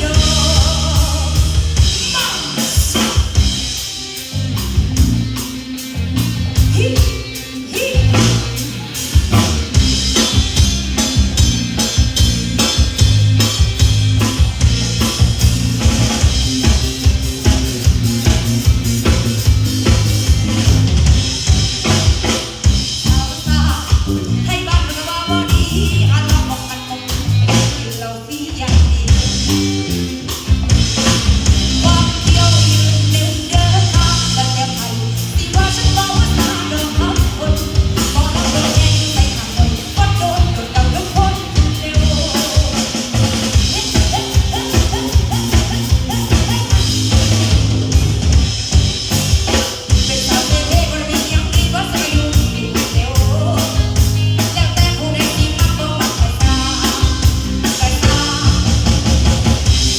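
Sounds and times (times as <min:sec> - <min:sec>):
bass line: 0:00.0 - 0:59.9
drum kit beat: 0:00.0 - 0:59.9.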